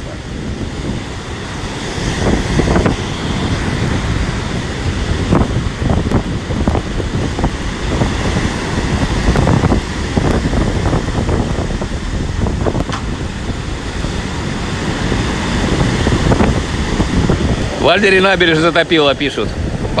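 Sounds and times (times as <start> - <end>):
gusting wind on microphone: 0.0 - 20.0
storm waves: 0.0 - 20.0.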